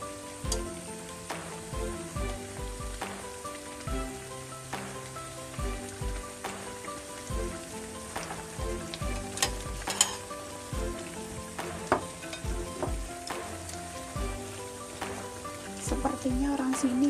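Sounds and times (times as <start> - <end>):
background music with beat: 0.0 - 17.0
water boiling and sizzling in wok: 0.0 - 17.0.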